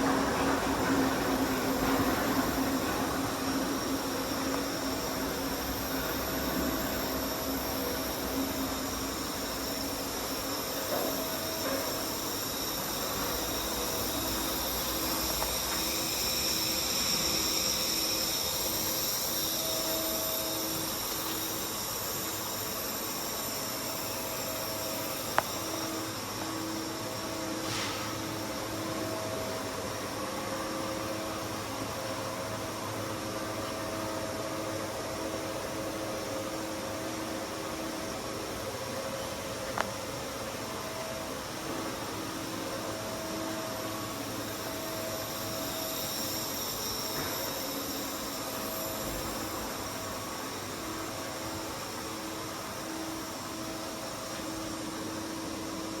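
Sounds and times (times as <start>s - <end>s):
lathe mechanical hum: 0.0s - 56.0s
steady machine tones: 0.0s - 56.0s.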